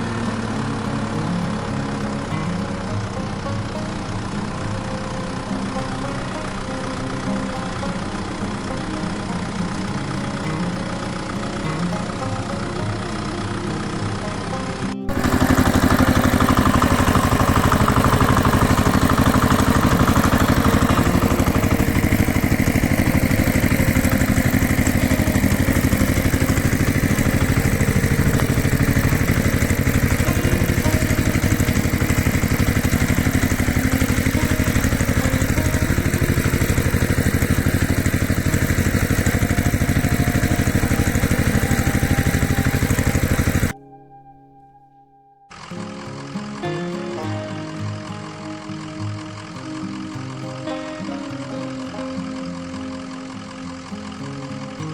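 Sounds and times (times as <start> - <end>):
engine running with pulsing beat: 0.0 - 43.8, 45.5 - 54.9.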